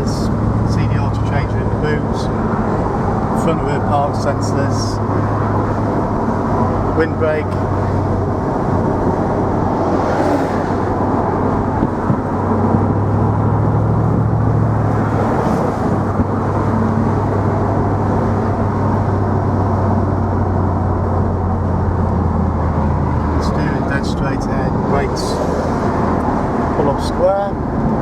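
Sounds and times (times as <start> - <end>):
car engine humming: 0.0 - 28.0
tyre and road noise: 0.0 - 28.0.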